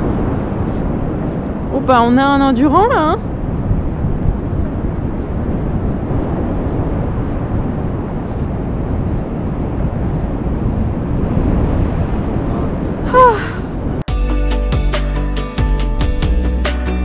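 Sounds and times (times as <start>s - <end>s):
wind buffeting microphone: 0.0s - 14.1s.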